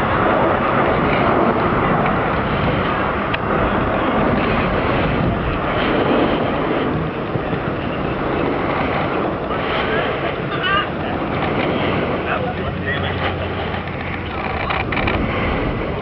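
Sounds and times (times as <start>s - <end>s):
jet bomber flying past: 0.0s - 16.0s.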